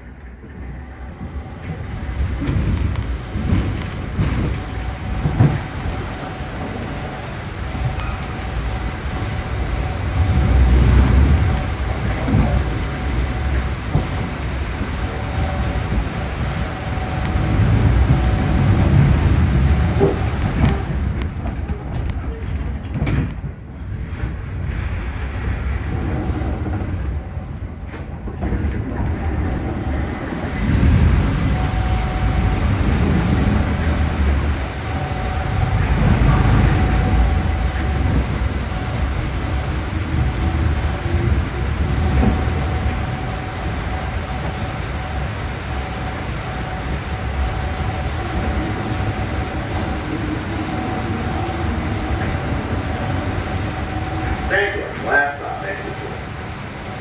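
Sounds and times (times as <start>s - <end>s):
faint even hum: 0.0s - 23.3s, 23.9s - 57.0s
train rumbling with high whine: 0.0s - 57.0s.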